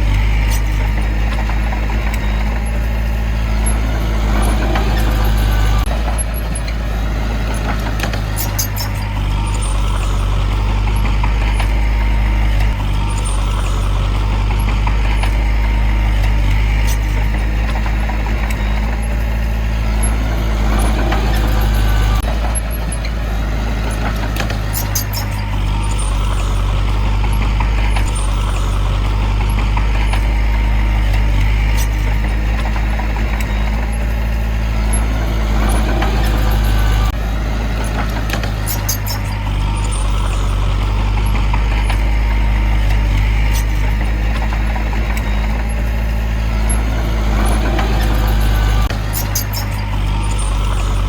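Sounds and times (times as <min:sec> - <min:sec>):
heavy diesel machinery engine droning: 0:00.0 - 0:51.0.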